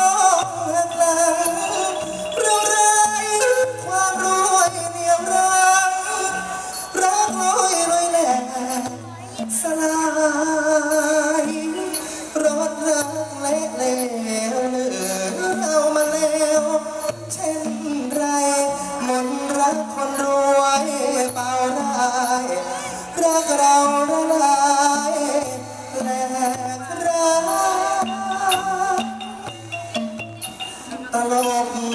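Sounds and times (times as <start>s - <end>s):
instrumental accompaniment: 0.0s - 31.9s
person singing into microphone: 0.0s - 31.9s.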